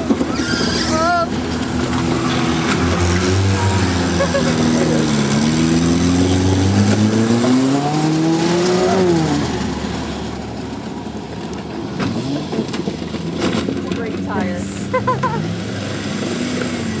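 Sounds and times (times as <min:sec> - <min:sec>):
car engine revving: 0:00.0 - 0:17.0
distant car engines: 0:00.0 - 0:17.0.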